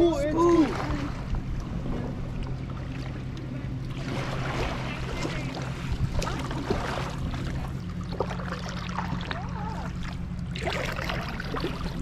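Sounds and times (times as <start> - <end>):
steady low rumble: 0.0 - 12.0
water splashing and trickling: 0.1 - 12.0.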